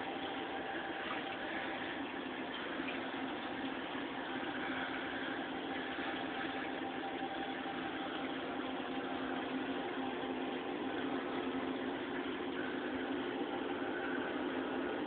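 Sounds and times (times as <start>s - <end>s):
aquarium pumps humming: 0.0s - 15.0s
constant hiss: 0.0s - 15.0s.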